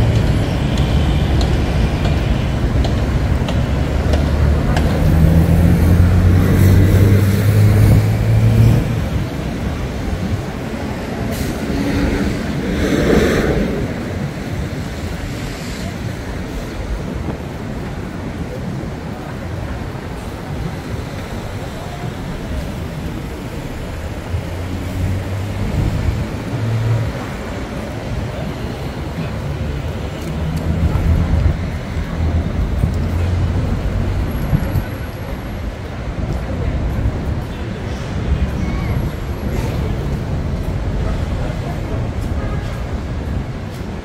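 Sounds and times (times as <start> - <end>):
passing traffic: 0.0 - 44.0.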